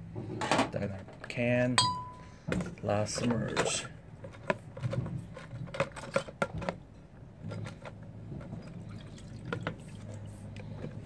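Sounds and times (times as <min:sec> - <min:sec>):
low steady hum: 0:00.9 - 0:11.0.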